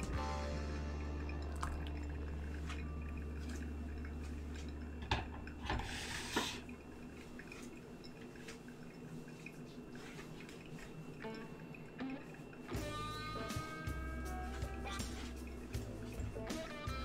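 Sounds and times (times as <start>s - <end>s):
steady low hum: 0.0s - 17.0s
hot water pouring onto coffee: 0.1s - 17.0s.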